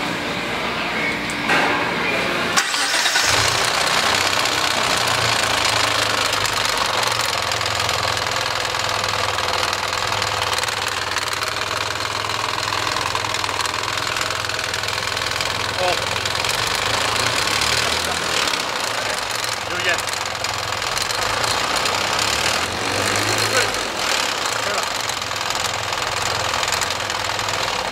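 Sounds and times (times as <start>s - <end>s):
car engine starting and idling: 2.5s - 27.9s
fast ticking engine rattle: 2.6s - 27.9s.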